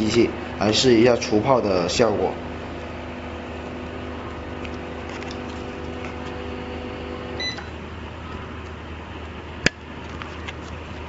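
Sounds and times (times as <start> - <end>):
machine humming: 0.0 - 9.6.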